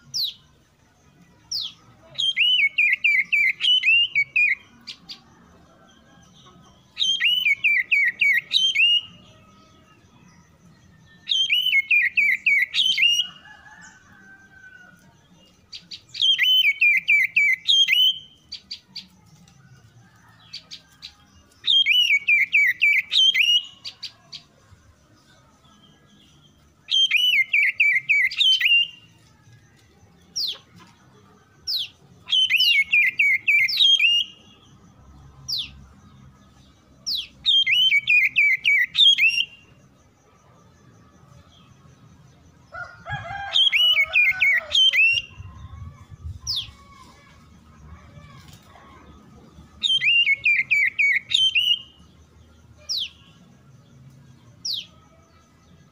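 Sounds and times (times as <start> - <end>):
bird singing: 0.0 - 55.9.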